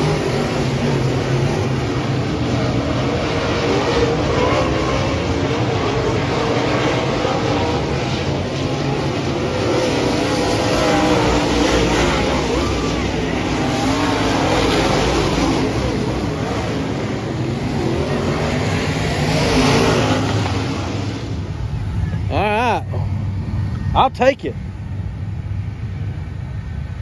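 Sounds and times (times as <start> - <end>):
race car engines circling: 0.0 - 27.0.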